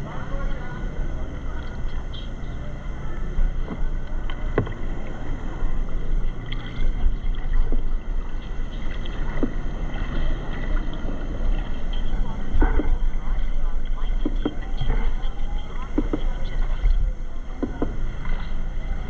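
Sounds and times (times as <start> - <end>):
boat engine rumble: 0.0 - 19.0
water noise: 0.0 - 19.0.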